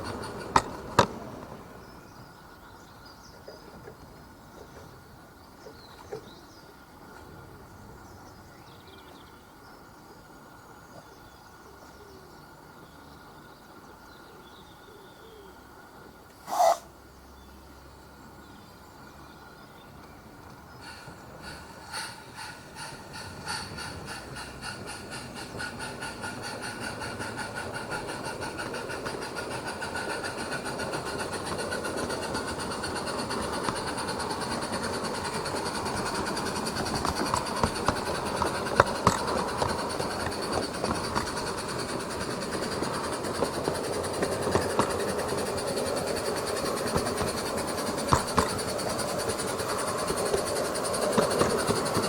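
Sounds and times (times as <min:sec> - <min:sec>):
wheels clicking over rail joints: 0:00.0 - 0:11.4, 0:19.5 - 0:52.0
model train running on track: 0:00.0 - 0:52.0.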